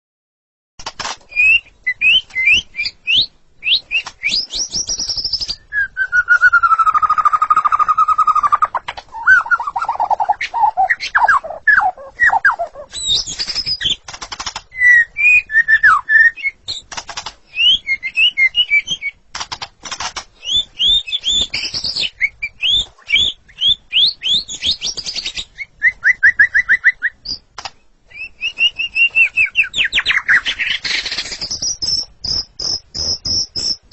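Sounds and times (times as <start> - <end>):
bird singing varied song: 1.0 - 33.9.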